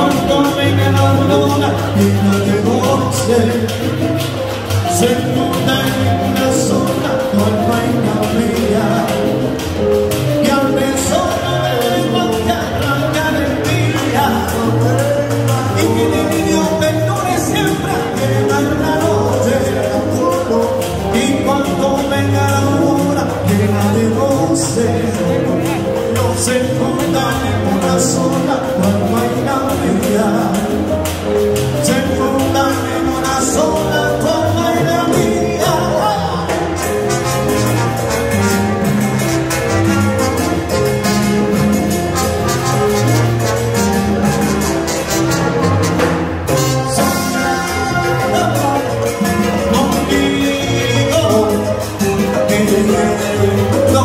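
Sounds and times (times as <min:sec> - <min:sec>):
person singing: 0:00.0 - 0:45.8, 0:46.5 - 0:54.0
latin dance band playing: 0:00.0 - 0:54.0.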